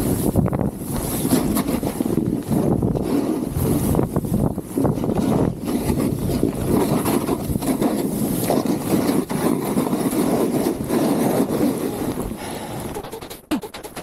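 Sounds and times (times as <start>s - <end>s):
wind buffeting microphone: 0.0s - 13.2s
snowboard scraping over snow: 0.0s - 14.0s.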